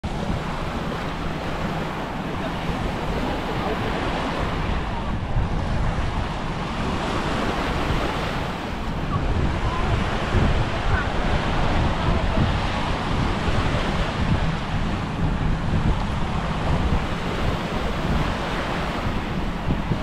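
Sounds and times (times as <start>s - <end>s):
small waves washing onto sand: 0.0s - 20.0s
wind buffeting microphone: 0.0s - 20.0s.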